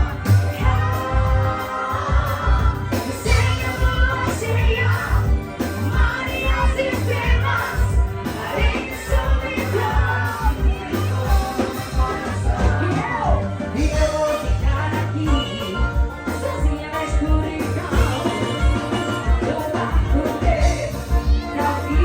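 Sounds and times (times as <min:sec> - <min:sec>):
live band over loudspeakers: 0:00.0 - 0:22.0
person singing: 0:00.0 - 0:22.0.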